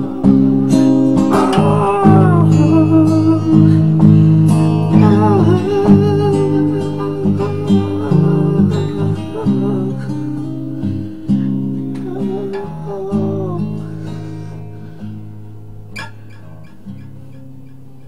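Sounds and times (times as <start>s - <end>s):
acoustic guitar playing chords: 0.0s - 18.0s.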